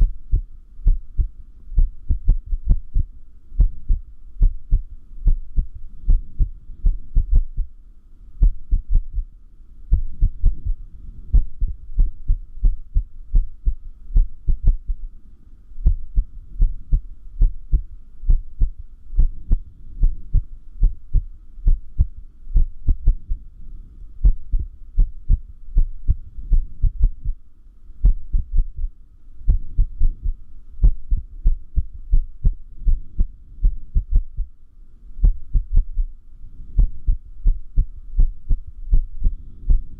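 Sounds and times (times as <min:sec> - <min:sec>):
heartbeat thumps: 0:00.0 - 0:07.8, 0:08.4 - 0:09.3, 0:09.9 - 0:15.1, 0:15.8 - 0:23.5, 0:24.2 - 0:27.4, 0:28.0 - 0:28.9, 0:29.5 - 0:34.6, 0:35.2 - 0:36.2, 0:36.8 - 0:39.9.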